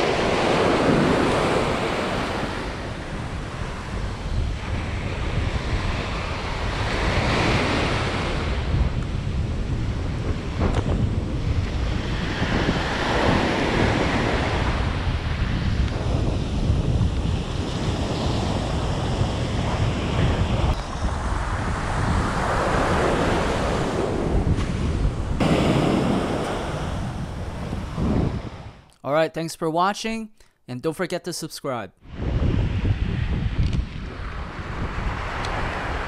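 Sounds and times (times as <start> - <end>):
ocean surf breaking: 0.0 - 28.8, 32.1 - 36.0
wind rumble on microphone: 0.0 - 28.9, 32.0 - 36.0.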